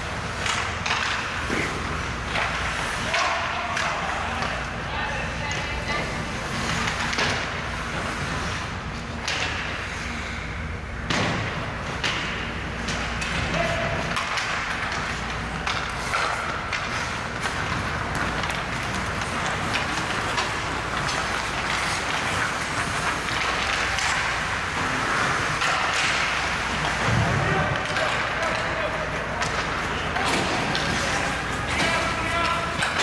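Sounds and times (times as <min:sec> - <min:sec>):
skates scraping on ice: 0:00.0 - 0:33.0
sticks and puck clacking: 0:00.0 - 0:33.0.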